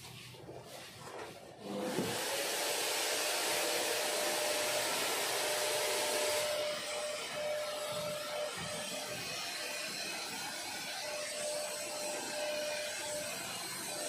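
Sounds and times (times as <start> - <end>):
stick vacuum cleaner running: 0.5 - 14.0.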